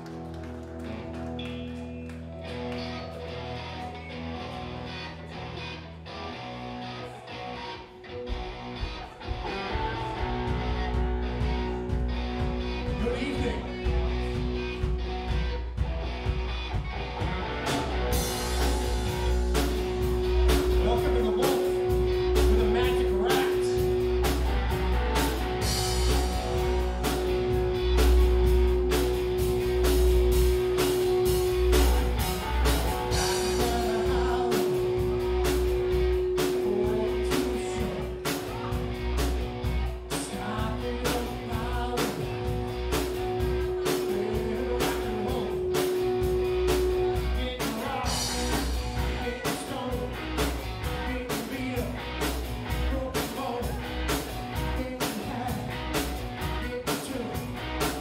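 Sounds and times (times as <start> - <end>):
live rock band playing: 0.0 - 58.0
drums beating: 8.2 - 58.0.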